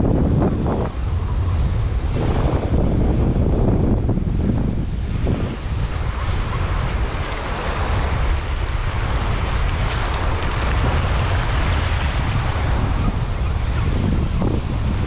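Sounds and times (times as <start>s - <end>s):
wind buffeting microphone: 0.0s - 15.0s
small waves breaking on beach: 0.8s - 15.0s.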